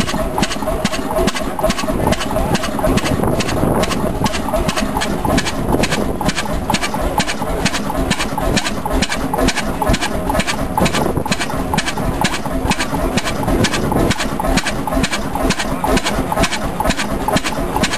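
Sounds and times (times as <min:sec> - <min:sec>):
stationary engine knocking: 0:00.0 - 0:17.9.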